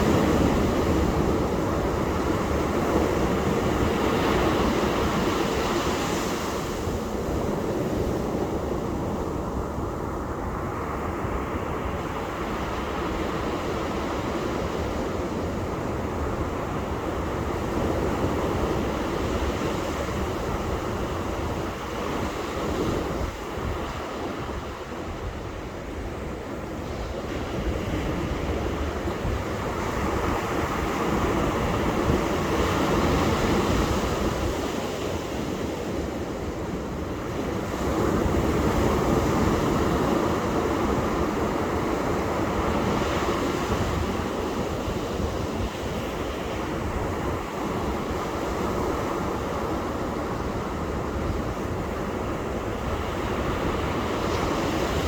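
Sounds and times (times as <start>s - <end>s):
ocean surf washing onto beach: 0.0s - 55.0s
wind rumbling on microphone: 0.0s - 55.0s.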